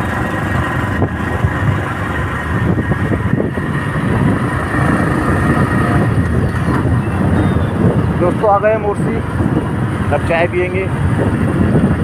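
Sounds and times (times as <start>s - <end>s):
vehicle rumbling on the move: 0.0s - 12.0s.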